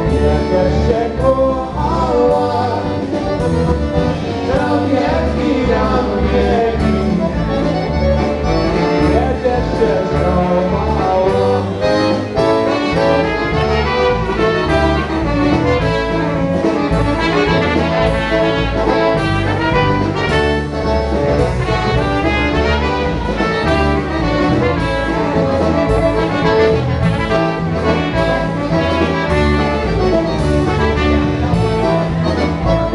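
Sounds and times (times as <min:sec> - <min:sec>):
horns playing melody: 0:00.0 - 0:32.9.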